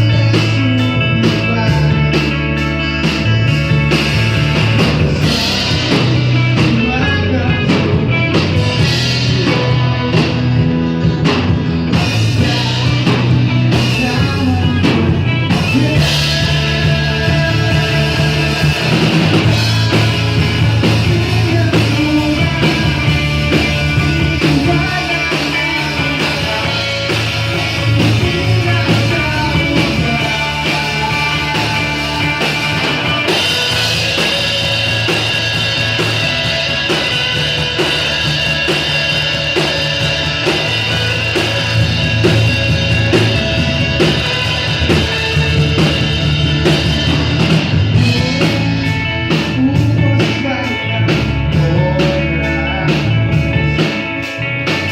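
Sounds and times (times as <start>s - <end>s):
electric guitar: 0.0s - 54.9s
person singing: 0.0s - 54.9s
rock band playing live: 0.0s - 54.9s.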